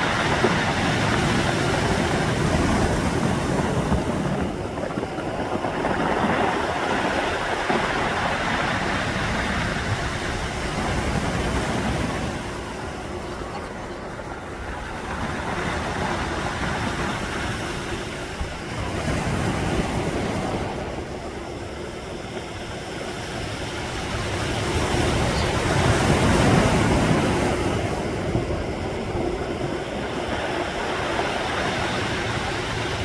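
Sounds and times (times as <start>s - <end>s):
sea waves breaking on shore: 0.0s - 33.0s.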